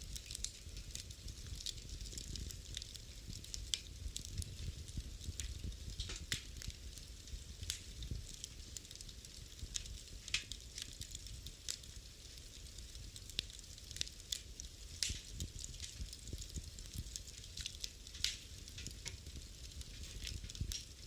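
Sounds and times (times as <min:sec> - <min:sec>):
low rumble of flame: 0:00.0 - 0:21.0
wood fire crackling and popping: 0:00.0 - 0:21.0.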